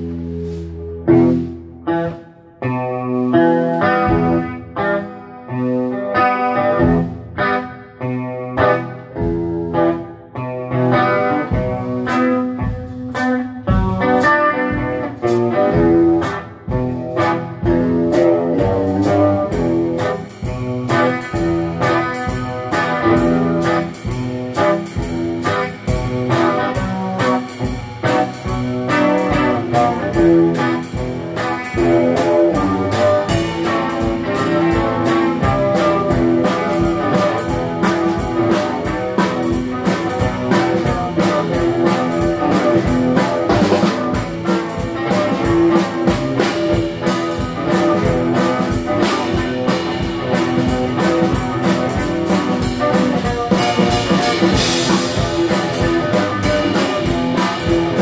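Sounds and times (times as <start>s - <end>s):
drums and cymbals: 0.0s - 58.0s
electric guitar playing: 0.0s - 58.0s.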